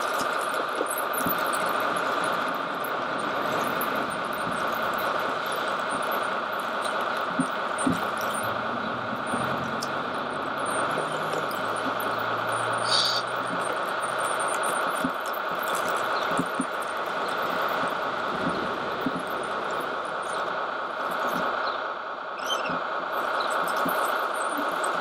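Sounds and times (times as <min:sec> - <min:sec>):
low hum: 0:00.0 - 0:25.0
electric drive whining: 0:01.2 - 0:21.8.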